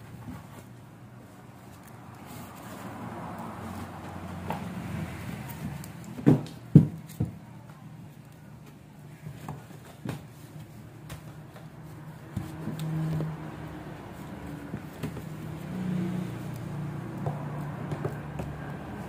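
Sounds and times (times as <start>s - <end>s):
leaves handled and folded: 0.0s - 6.2s, 7.0s - 19.0s.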